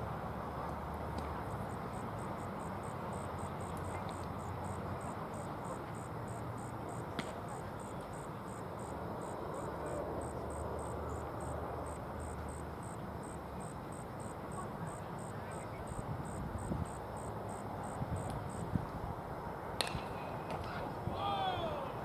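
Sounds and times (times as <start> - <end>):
outdoor background hum: 0.0 - 22.0
insects chirping: 1.4 - 20.4.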